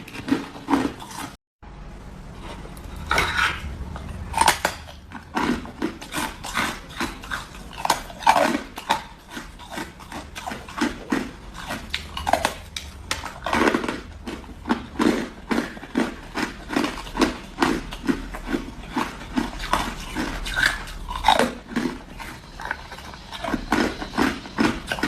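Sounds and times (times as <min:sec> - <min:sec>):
crunching frozen ice: 0:04.1 - 0:25.0.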